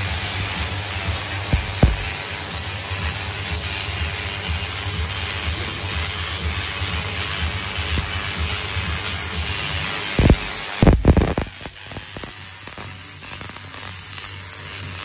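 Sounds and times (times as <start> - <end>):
tesla coil crackling buzz: 0.0 - 15.0.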